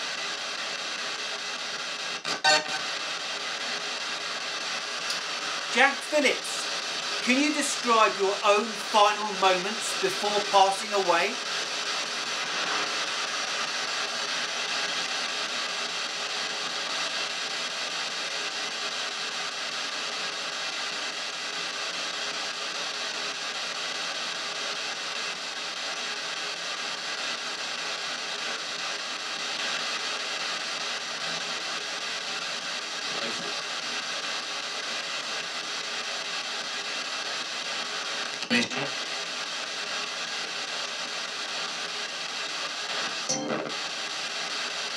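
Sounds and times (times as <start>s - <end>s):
radio static hiss: 0.0s - 44.9s.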